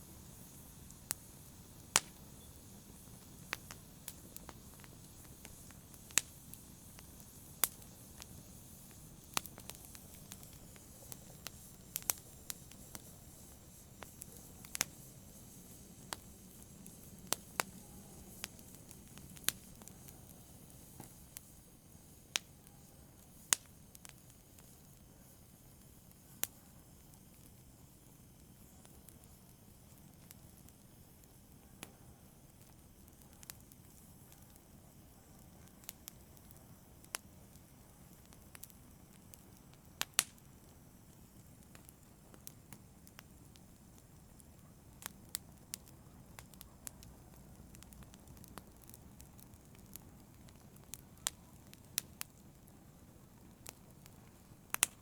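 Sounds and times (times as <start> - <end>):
faint low hiss: 0.0 - 55.0
open fire crackling pops: 0.0 - 55.0.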